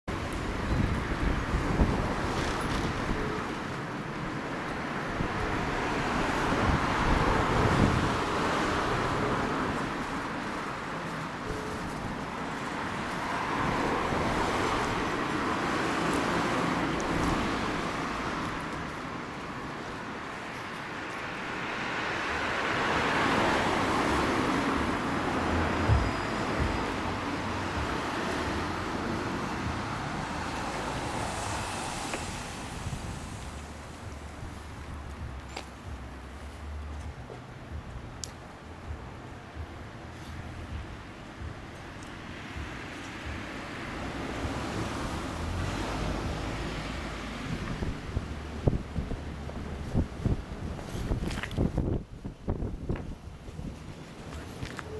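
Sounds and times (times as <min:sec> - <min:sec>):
street traffic passing: 0:00.1 - 0:54.9.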